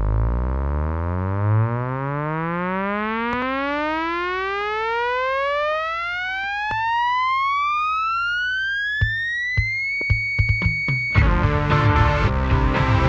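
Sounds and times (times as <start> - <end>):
synthesizer tone gliding upward: 0.0 - 11.1.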